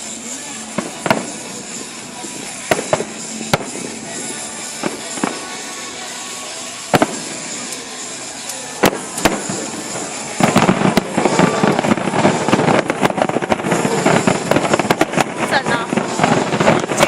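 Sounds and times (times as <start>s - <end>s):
firework bangs: 0.0s - 17.0s
fireworks crackling: 0.0s - 17.0s.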